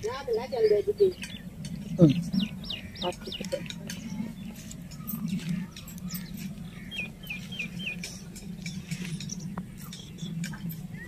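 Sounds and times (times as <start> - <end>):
small bird chirping: 0.0 - 11.0
steady low hum: 0.0 - 11.0.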